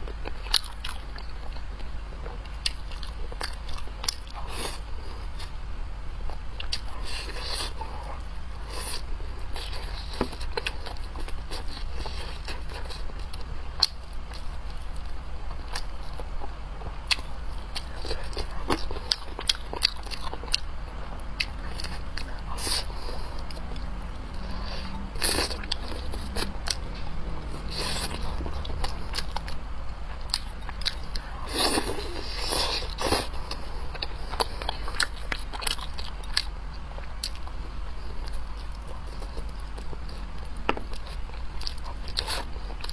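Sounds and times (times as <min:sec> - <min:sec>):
person chewing food: 0:00.0 - 0:05.6, 0:06.2 - 0:42.9.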